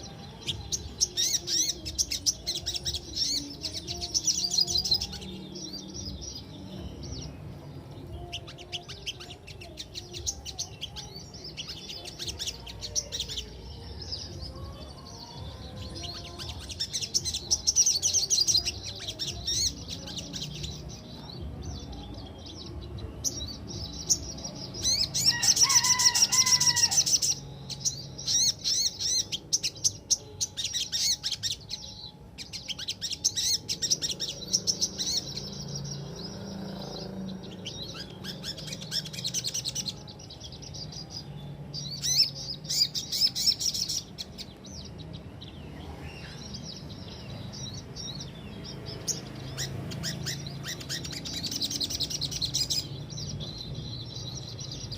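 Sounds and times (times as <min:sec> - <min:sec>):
bird singing rolling chirps: 0:00.0 - 0:54.9.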